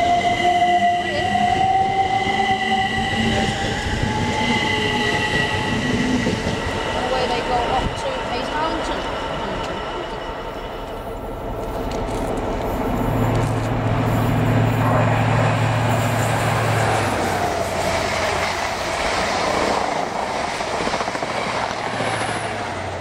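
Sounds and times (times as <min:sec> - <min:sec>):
train engine hum: 0:00.0 - 0:23.0
train wheels and air rushing: 0:01.6 - 0:23.0.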